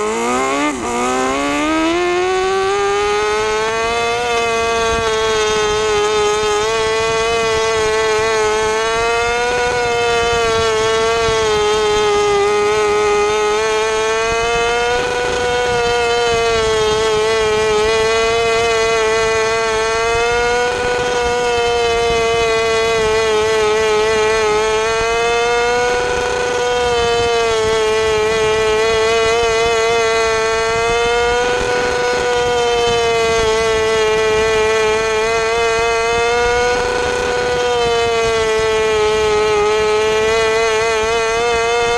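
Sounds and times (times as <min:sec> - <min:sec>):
motorcycle engine at high revs: 0:00.0 - 0:41.9.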